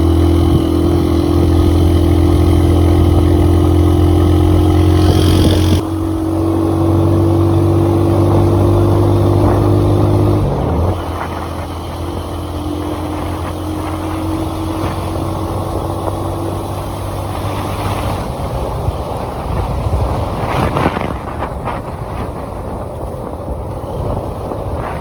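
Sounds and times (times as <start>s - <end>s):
car engine running: 0.0s - 25.0s
road noise: 0.0s - 25.0s.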